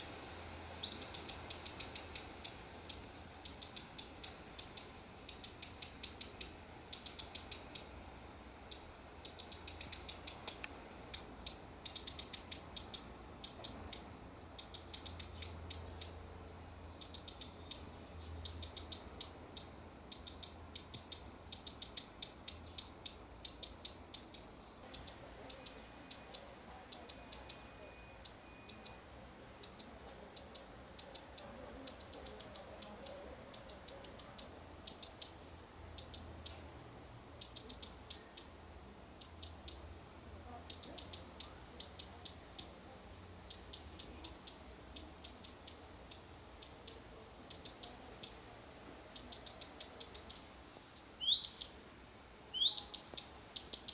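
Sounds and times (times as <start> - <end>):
bird sharp ticking calls: 0.8 - 8.0, 8.7 - 36.7, 37.3 - 48.4, 49.1 - 51.8, 52.5 - 53.9.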